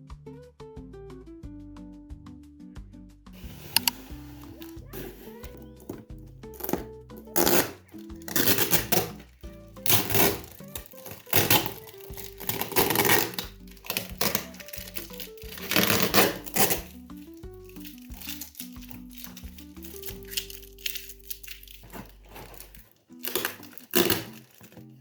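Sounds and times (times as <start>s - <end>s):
background music: 0.0s - 25.0s
crinkling and rustling: 3.4s - 25.0s.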